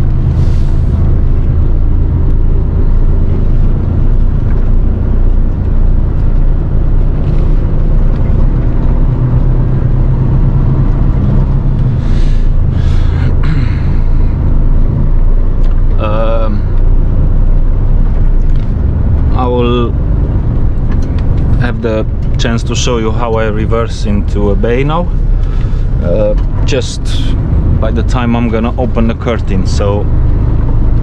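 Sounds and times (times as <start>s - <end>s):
diesel engine drone: 0.0s - 31.0s
road noise: 0.0s - 31.0s.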